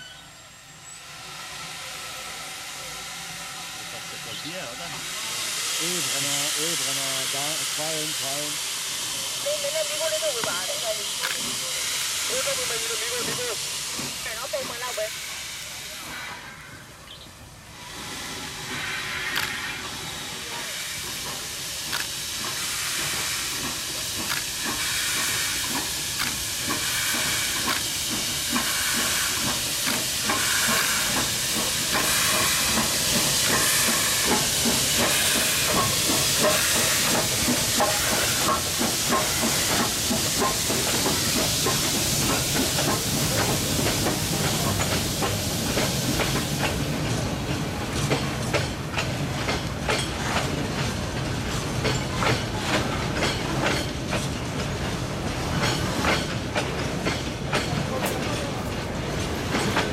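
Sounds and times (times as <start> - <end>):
steam hiss: 0.0 - 59.9
steam locomotive exhaust beats: 0.7 - 59.9.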